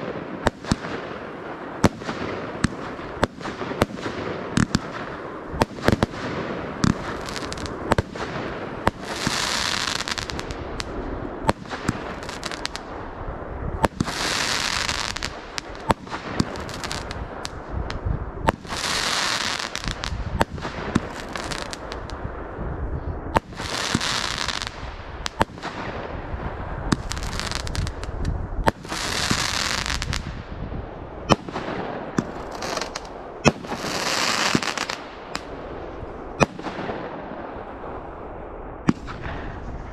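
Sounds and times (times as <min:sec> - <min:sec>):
fireworks bangs: 0:00.0 - 0:39.9
hissing crackling firework bursts: 0:00.3 - 0:22.2, 0:23.4 - 0:30.4, 0:31.3 - 0:35.5.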